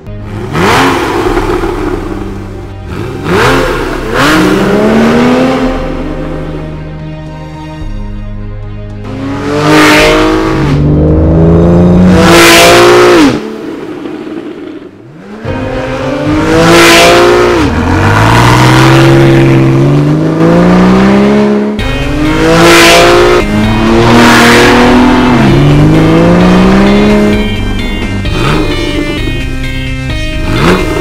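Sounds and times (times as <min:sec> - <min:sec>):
sports car engine accelerating hard: 0:00.0 - 0:06.7, 0:09.0 - 0:31.0.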